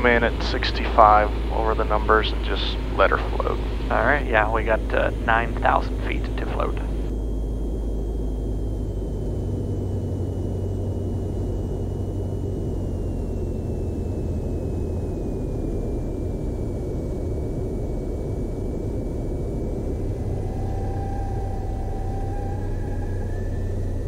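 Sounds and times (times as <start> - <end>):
propeller plane engine droning: 0.0 - 24.0
steady tone: 0.0 - 24.0.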